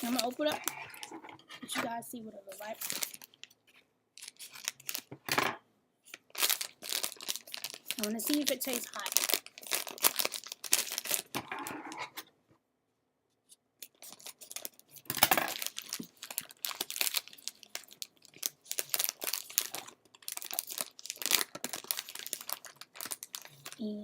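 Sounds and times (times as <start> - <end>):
plastic snack bag crinkling: 0.0 - 1.2, 2.5 - 5.2, 6.1 - 12.2, 13.8 - 24.0.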